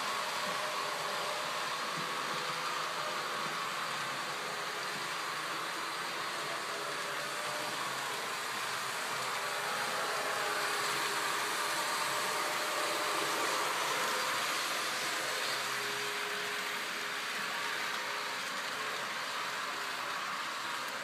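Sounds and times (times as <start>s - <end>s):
model train whirring rumble: 0.0s - 21.0s.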